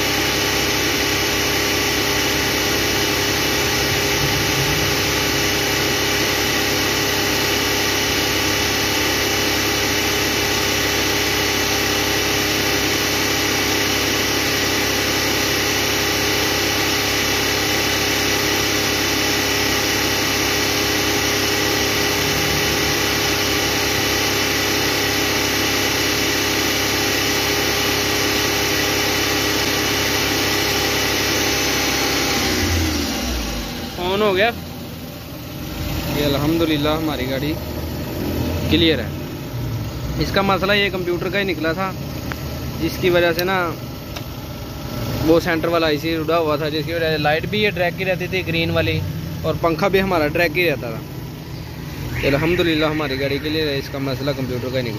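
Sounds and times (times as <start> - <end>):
car engine idling: 0.0 - 30.4, 32.5 - 54.9.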